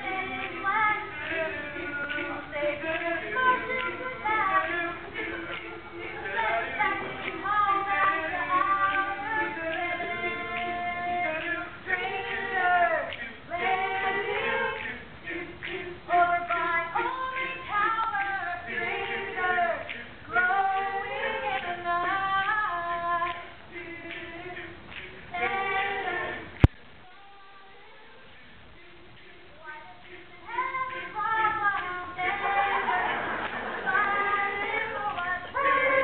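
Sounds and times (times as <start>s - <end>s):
faint hiss: 0.0s - 36.0s
group of women singing: 0.0s - 36.0s.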